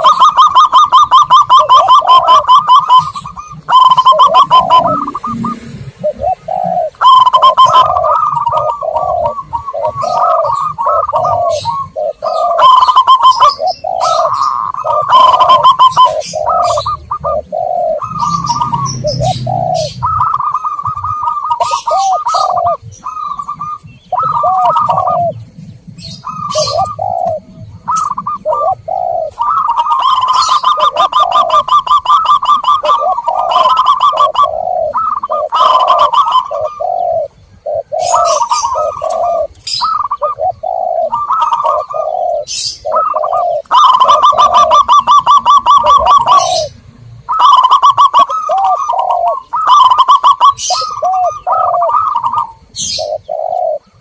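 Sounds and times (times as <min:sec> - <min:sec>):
doves cooing: 0:00.0 - 0:54.0
small birds chirping: 0:00.0 - 0:54.0.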